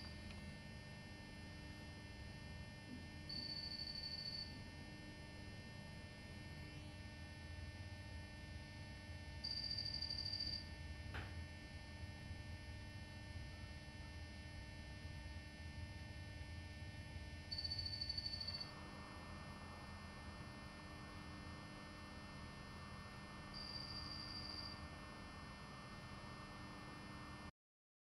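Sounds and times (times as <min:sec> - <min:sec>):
steady background hum: 0:00.0 - 0:27.3.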